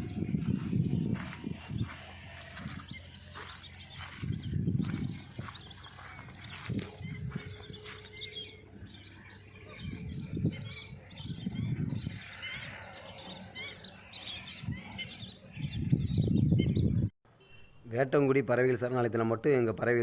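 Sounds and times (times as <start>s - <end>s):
birds chirping and calling: 0.0s - 17.1s.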